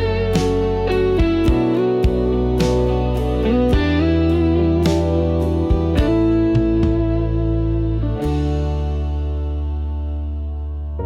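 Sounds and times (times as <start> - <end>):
bass line: 0.0 - 11.0
guitar melody: 0.0 - 11.0.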